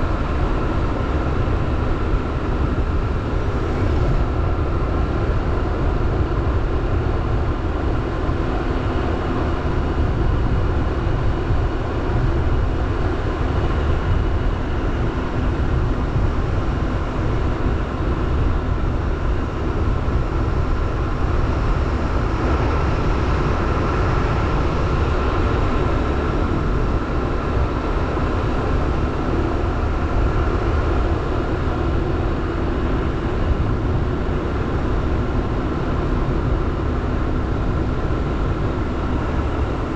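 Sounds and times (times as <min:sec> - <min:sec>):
motorbike engine hum: 0:00.0 - 0:39.9
road and wind noise: 0:00.0 - 0:39.9.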